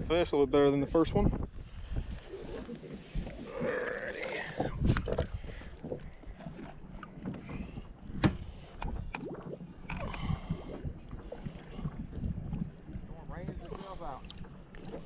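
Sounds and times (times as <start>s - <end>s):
water sloshing and splashing: 0.8s - 15.0s
wind on microphone: 0.9s - 15.0s.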